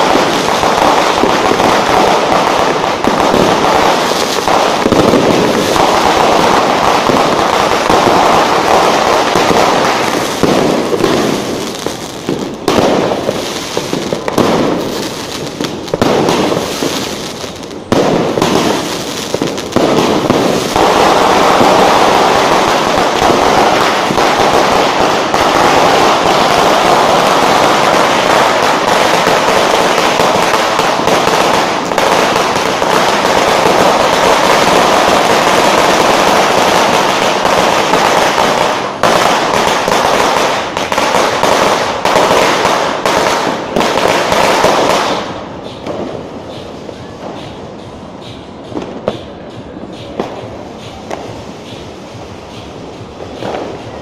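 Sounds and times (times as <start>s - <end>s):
firecrackers and fireworks banging: 0.0s - 54.0s.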